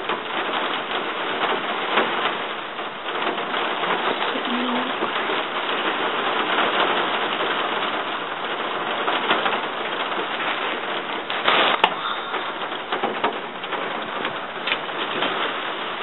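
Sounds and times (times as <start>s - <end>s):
rustle: 0.0s - 16.0s
steady rain in woods: 0.0s - 16.0s.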